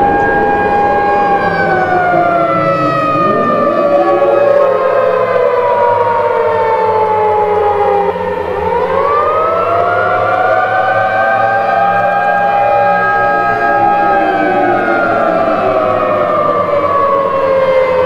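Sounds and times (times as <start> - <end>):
civil defense siren: 0.0 - 18.0.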